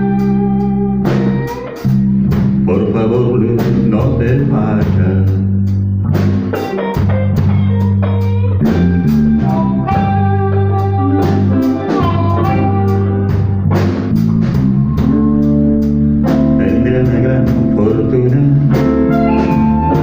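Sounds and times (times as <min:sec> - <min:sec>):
bass guitar: 0:00.0 - 0:20.0
drum kit beat: 0:00.0 - 0:20.0
electric guitar lead lines: 0:00.0 - 0:20.0.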